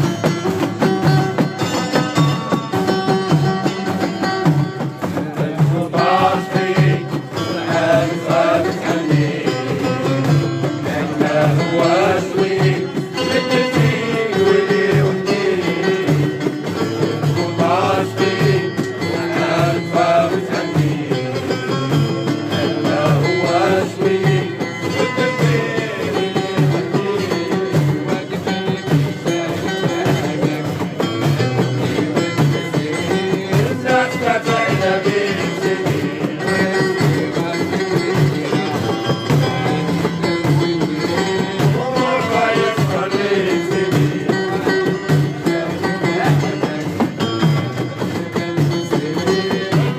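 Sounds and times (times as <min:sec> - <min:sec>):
sliding folk melody: 0:00.0 - 0:49.9
steady low drum beat: 0:00.0 - 0:49.9.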